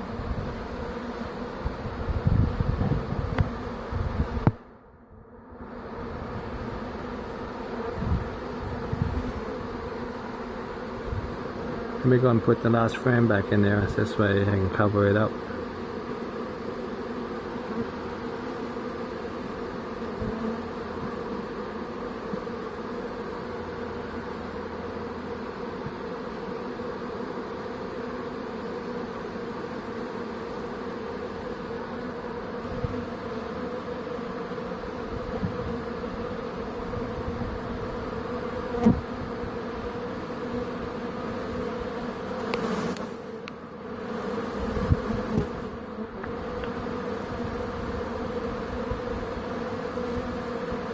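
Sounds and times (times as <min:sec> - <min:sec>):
bee swarm buzzing: 0:00.0 - 0:50.9.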